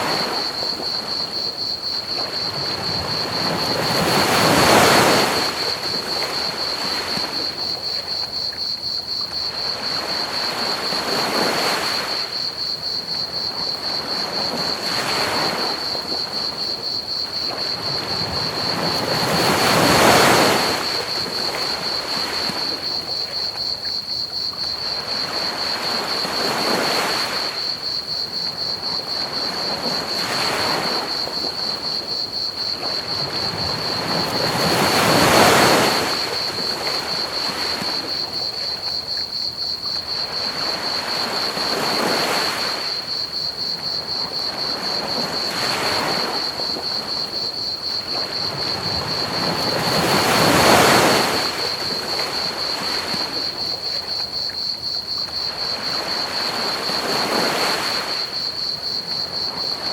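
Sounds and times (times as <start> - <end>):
crickets chirping: 0.0 - 59.9
ocean waves washing on beach: 0.0 - 59.9.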